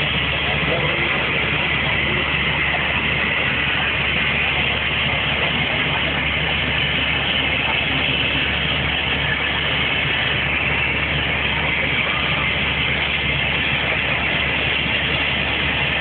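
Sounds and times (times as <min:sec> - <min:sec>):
helicopter engines and rotor: 0:00.0 - 0:16.0.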